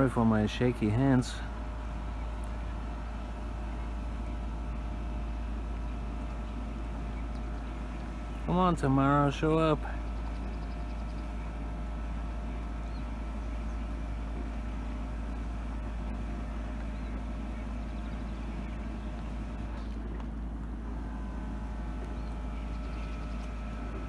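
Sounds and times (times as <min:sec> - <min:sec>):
distant engine hum: 0:00.0 - 0:24.0.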